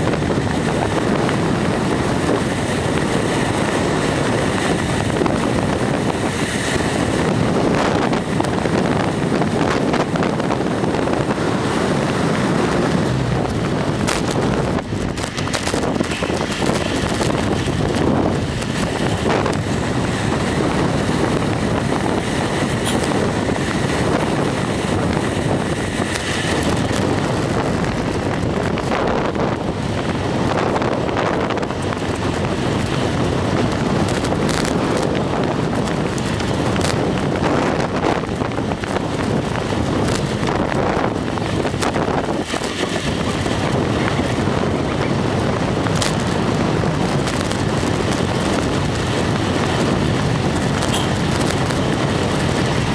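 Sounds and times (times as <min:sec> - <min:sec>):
road noise: 0:00.0 - 0:52.9
wind rushing over microphone: 0:00.0 - 0:52.9.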